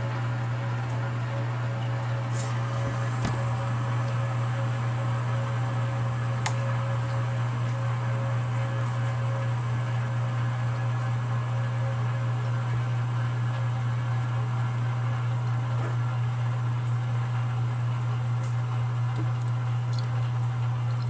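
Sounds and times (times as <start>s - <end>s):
well pump humming: 0.0s - 21.0s.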